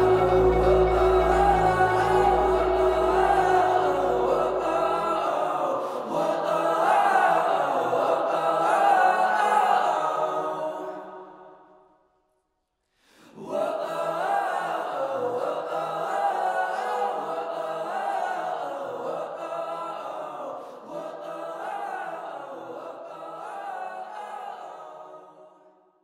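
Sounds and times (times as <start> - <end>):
choir singing: 0.0 - 11.8, 13.3 - 25.8.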